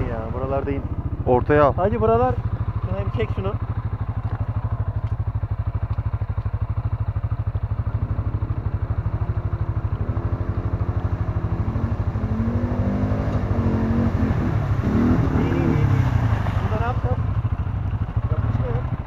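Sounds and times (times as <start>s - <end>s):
atv engine idling: 0.0s - 19.0s
second atv engine approaching: 0.0s - 19.0s.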